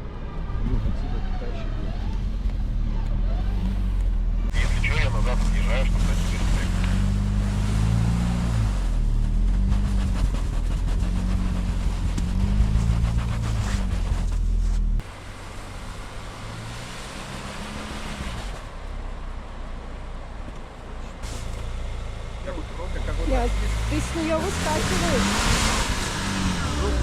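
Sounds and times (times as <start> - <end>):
off-road engine revving: 0.0 - 19.8, 21.2 - 27.0.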